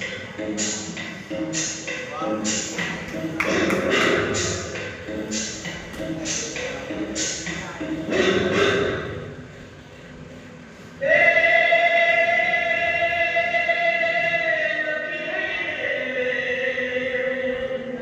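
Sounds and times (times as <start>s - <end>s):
music with singing: 0.0s - 18.0s.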